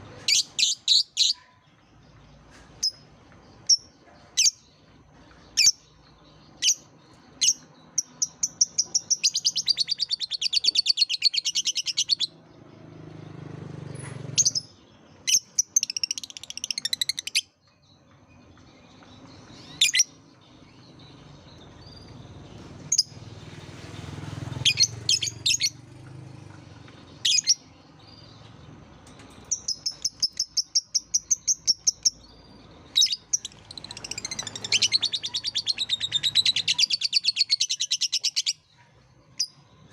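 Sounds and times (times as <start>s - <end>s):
shrill bird chirps: 0.0s - 25.9s, 27.0s - 39.9s
rapid rattling bird chatter: 2.0s - 39.9s.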